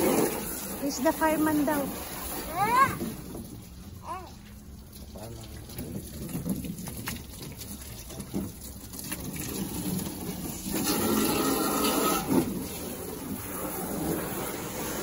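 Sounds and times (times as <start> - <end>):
garden hose water spraying: 0.0 - 15.0.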